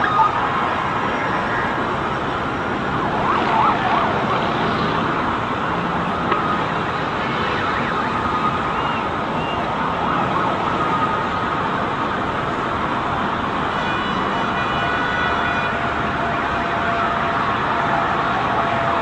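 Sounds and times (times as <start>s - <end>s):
emergency sirens wailing: 0.0s - 19.0s
street traffic noise: 0.0s - 19.0s.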